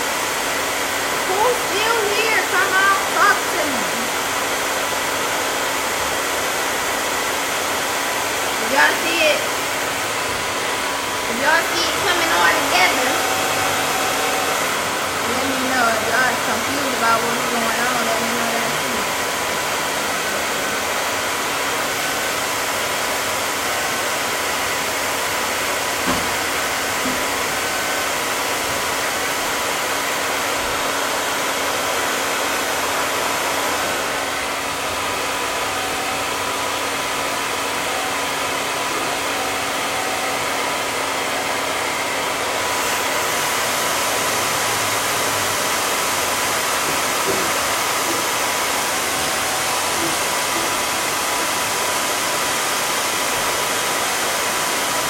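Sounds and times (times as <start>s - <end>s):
blow dryer blowing: 0.0s - 55.0s.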